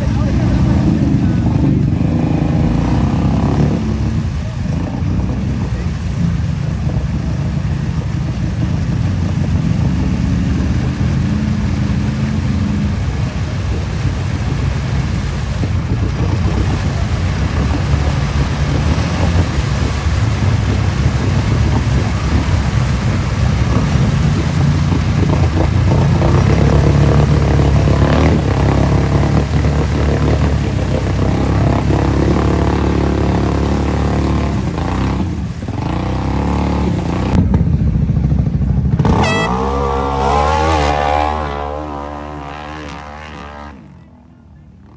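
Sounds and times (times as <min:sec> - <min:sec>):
off-road vehicle engine revving: 0:00.0 - 0:44.2.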